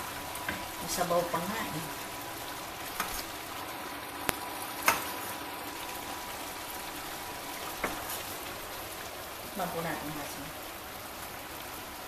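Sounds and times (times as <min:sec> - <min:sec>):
curry simmering bubbling hiss: 0:00.0 - 0:12.0.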